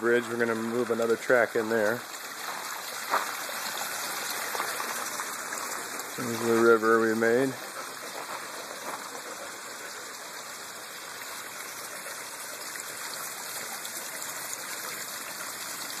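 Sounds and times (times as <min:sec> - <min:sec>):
water flowing over rocks: 0:00.0 - 0:16.0.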